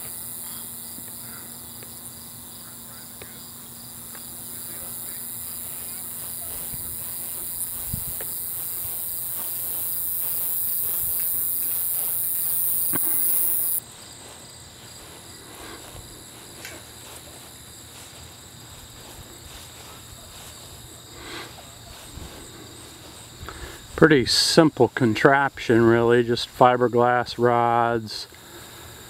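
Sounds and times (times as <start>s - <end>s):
loud high-pitched insect buzz: 0.0s - 24.0s
crickets chirring: 0.0s - 29.0s.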